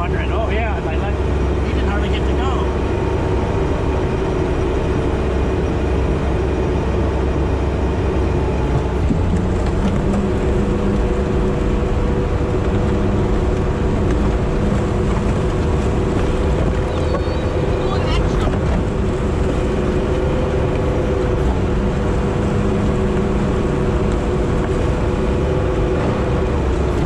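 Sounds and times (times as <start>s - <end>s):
diesel engine drone from cab: 0.0s - 27.0s.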